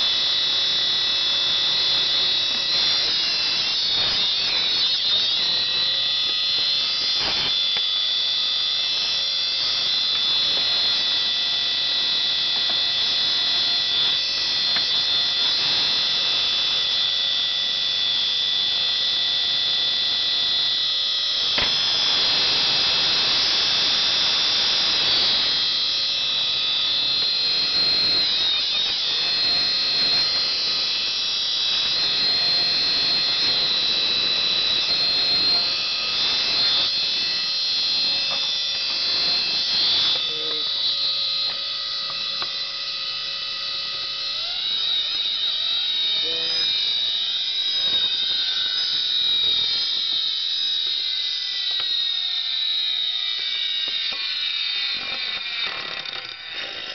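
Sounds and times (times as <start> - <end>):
hard drive shrill whine: 0.0 - 56.9.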